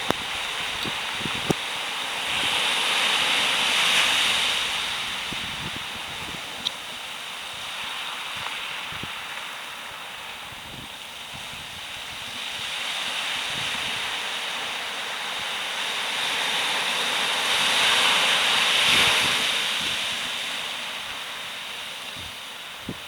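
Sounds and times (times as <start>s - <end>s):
surf roaring and breaking: 0.0s - 23.0s.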